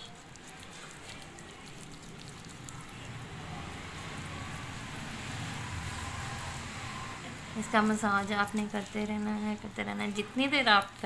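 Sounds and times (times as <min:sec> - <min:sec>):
sugar grains crackling: 0:00.0 - 0:06.6, 0:07.3 - 0:11.0.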